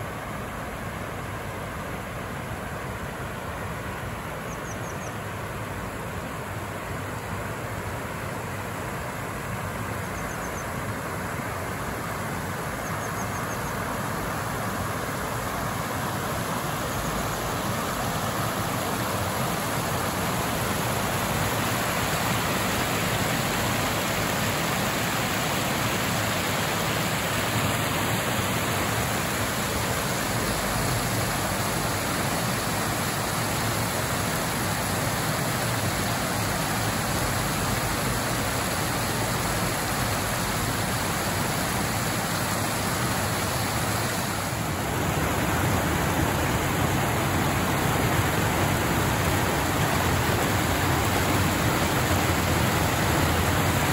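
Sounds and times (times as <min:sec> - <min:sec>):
water rushing over weir: 0:05.3 - 0:53.9.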